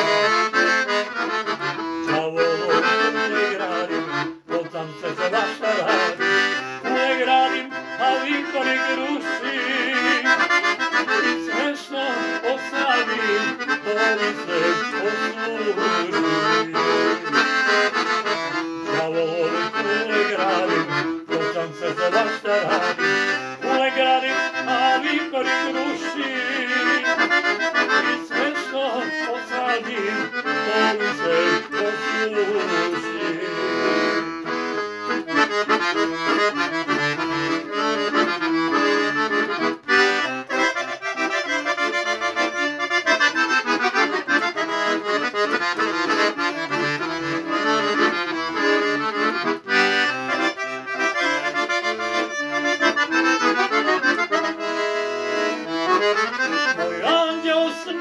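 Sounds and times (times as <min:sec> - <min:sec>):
accordion melody: 0:00.0 - 0:58.0.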